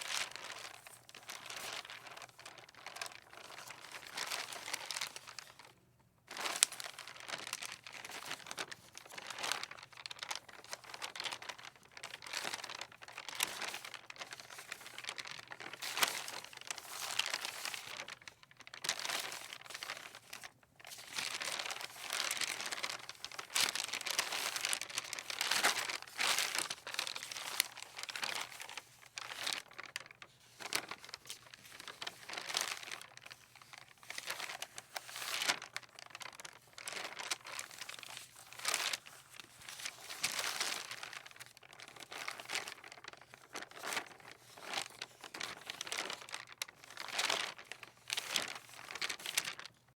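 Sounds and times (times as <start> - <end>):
paper rustling in wind: 0.0 - 49.9.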